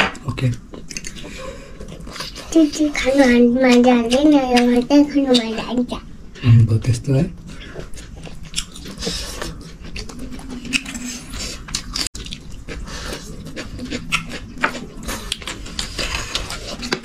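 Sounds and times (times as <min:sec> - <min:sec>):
people chewing and lip-smacking: 0:00.6 - 0:06.5, 0:07.4 - 0:17.0.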